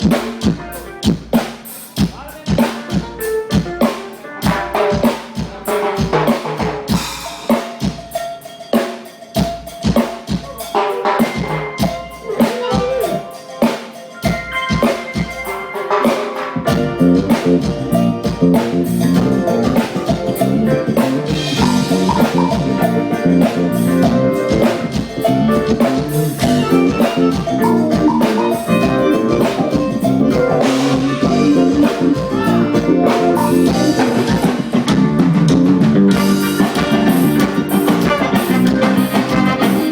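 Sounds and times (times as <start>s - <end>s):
drum kit playing: 0.0s - 39.9s
rock band playing: 0.0s - 39.9s.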